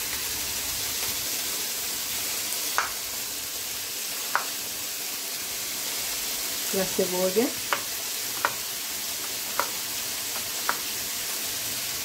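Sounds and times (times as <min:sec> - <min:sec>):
beans sizzling in oil: 0:00.0 - 0:12.0.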